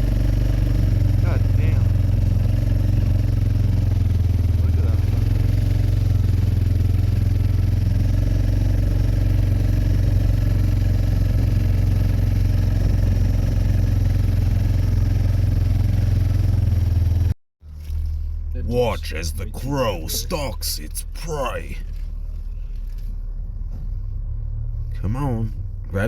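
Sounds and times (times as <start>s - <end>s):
atv engine running steadily: 0.0s - 26.0s.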